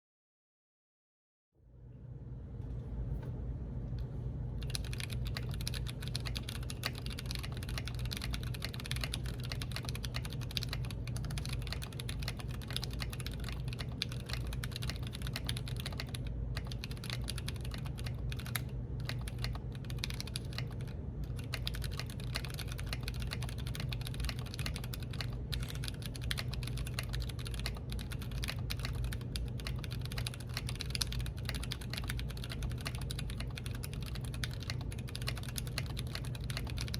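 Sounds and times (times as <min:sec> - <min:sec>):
steady low hum: 0:01.6 - 0:36.9
mechanical keyboard typing clacks: 0:04.6 - 0:36.9.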